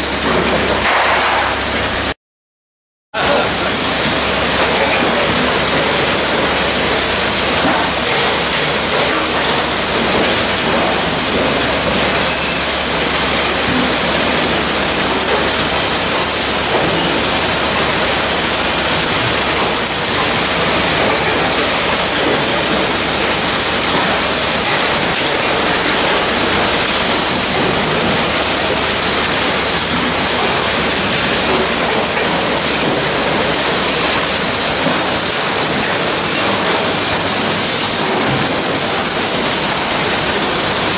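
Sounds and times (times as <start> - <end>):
bread line machine noise: 0.0 - 2.2, 3.2 - 40.9.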